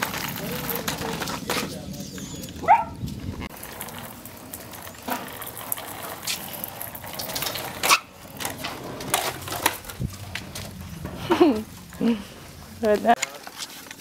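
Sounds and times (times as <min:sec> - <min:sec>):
toy skateboard rolling on concrete: 0:00.0 - 0:14.0.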